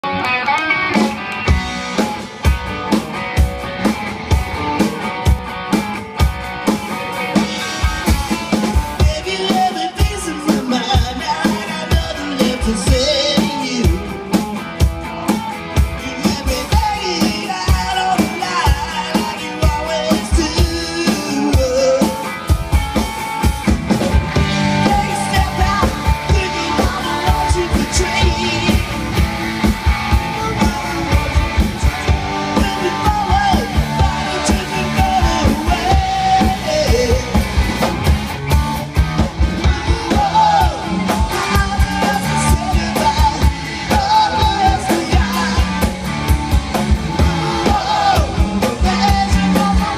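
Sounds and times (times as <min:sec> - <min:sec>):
electric guitars: 0:00.0 - 0:49.9
drum kit beat: 0:00.5 - 0:49.9.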